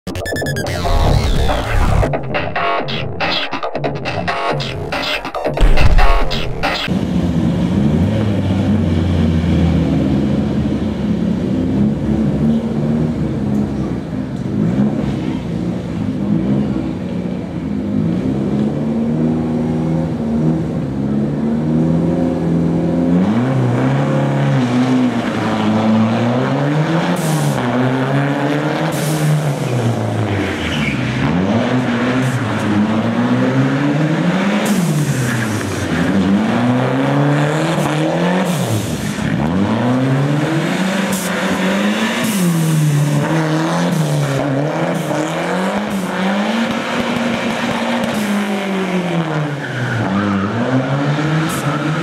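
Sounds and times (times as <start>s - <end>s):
rally car engine revving: 0.1s - 52.0s.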